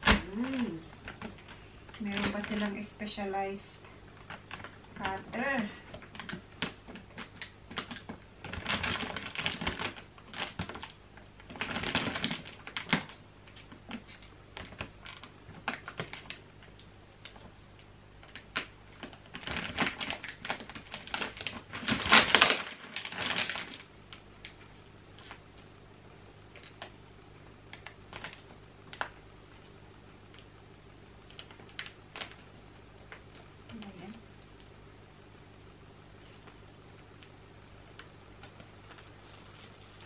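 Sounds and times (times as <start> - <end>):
plastic wrapping crinkling: 0.0 - 25.8, 26.5 - 30.6, 31.2 - 34.8, 36.1 - 40.0.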